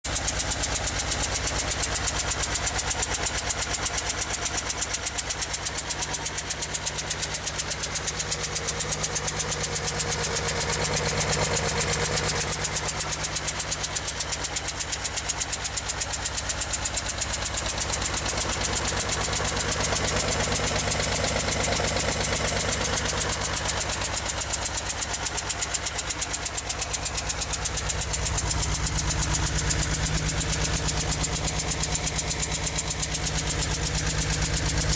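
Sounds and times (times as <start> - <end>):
car engine idling: 0.0 - 34.9
rapid engine ticking: 0.0 - 34.9.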